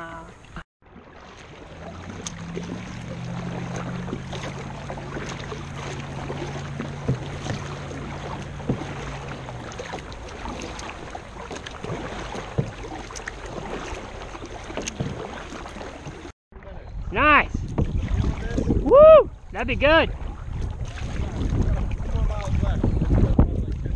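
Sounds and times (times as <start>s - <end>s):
steady water wash: 0.0s - 23.9s
paddle strokes in water: 0.2s - 16.3s, 17.6s - 23.9s.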